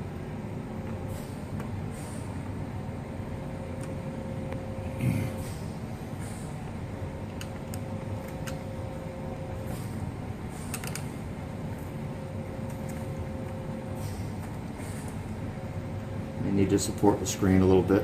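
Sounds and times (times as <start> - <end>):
steady room hum: 0.0 - 18.0.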